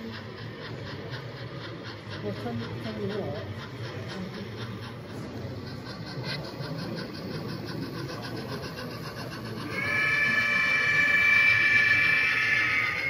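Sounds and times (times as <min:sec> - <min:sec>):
background murmur: 0:00.0 - 0:13.0.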